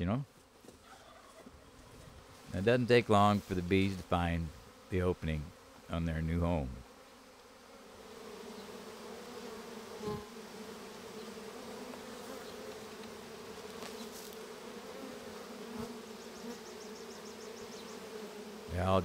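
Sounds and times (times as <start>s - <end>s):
bee swarm humming: 0.4s - 19.0s.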